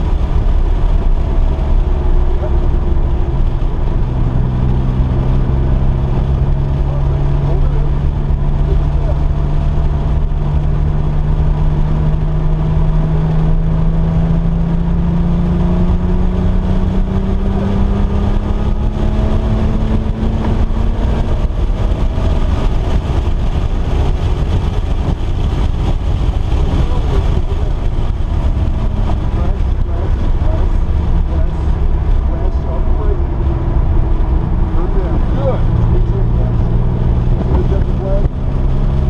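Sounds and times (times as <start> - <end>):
road and wind rumble: 0.0 - 39.0.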